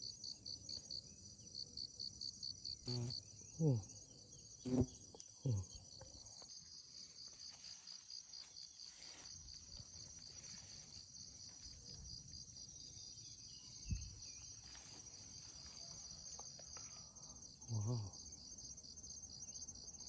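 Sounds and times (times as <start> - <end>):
insect trill: 0.0 - 20.0
hissing insect chorus: 0.1 - 20.0.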